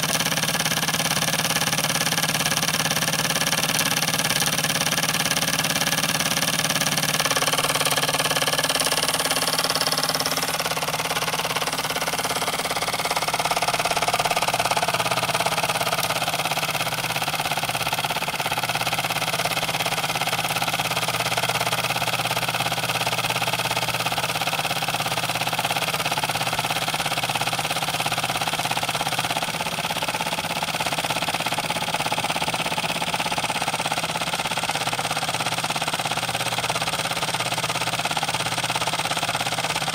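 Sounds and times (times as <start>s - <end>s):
engine rattling on tile: 0.0s - 39.9s
toy steam engine running: 0.0s - 39.9s.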